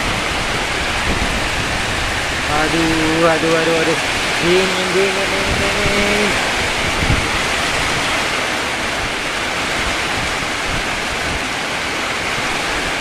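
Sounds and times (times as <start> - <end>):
heavy rain in strong wind: 0.0 - 13.0
wind gust on microphone: 0.0 - 13.0.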